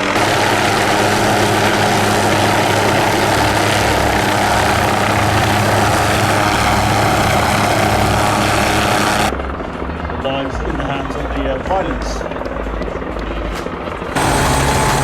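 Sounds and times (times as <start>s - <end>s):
helicopter rotor and engine: 0.0s - 15.0s.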